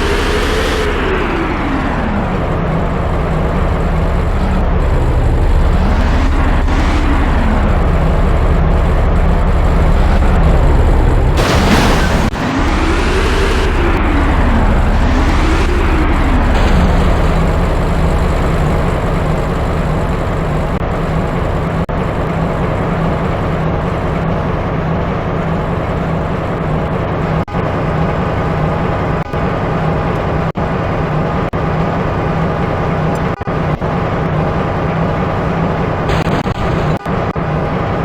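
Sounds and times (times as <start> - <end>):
vehicle engine revving: 0.0 - 27.7, 28.3 - 37.4
traffic rumble: 0.0 - 38.0.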